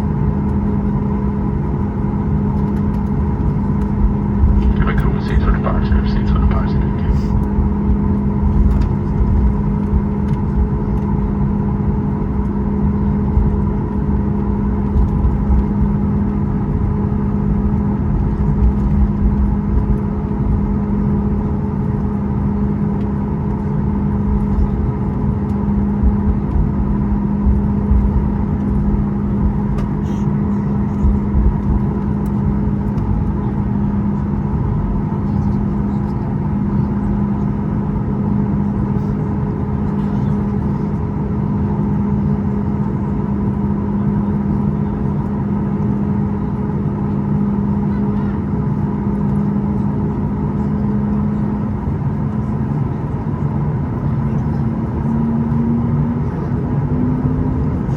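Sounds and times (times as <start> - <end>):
airplane cabin engine rumble: 0.0 - 57.9
steady cabin hum: 0.2 - 57.9.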